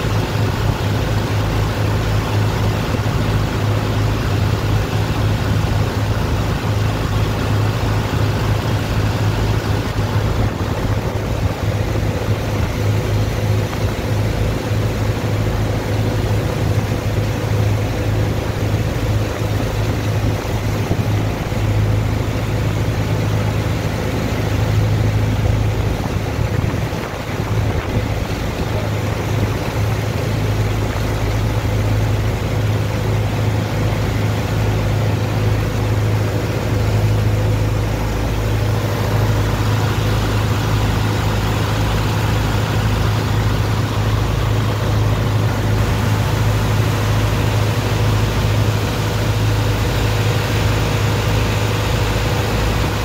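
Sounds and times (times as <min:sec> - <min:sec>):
pumping engine humming: 0:00.0 - 0:53.0
water jetting onto wet sand: 0:00.0 - 0:53.0.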